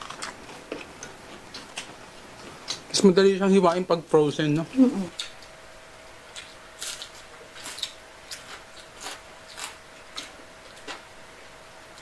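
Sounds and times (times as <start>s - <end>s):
crackling pork crunching: 0.0s - 12.0s.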